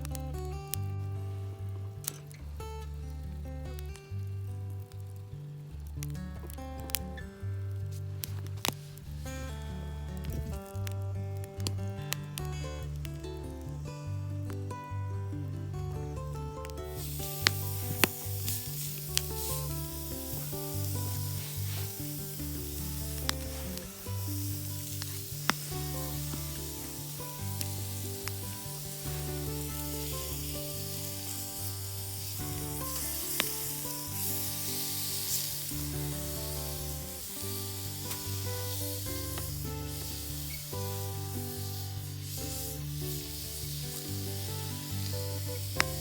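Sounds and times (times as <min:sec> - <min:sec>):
background music with bass notes: 0:00.0 - 0:46.0
campfire crackling: 0:00.0 - 0:46.0
fire popping: 0:00.0 - 0:46.0.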